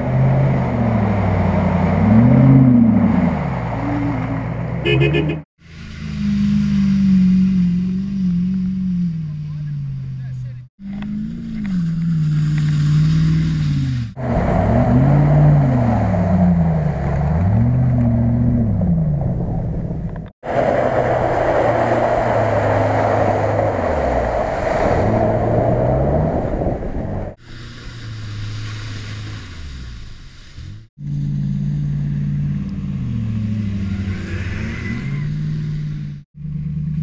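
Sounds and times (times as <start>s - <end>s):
spinning tyres and mud spray: 0.0s - 5.0s, 5.6s - 37.0s
suv engine revving: 0.0s - 37.0s.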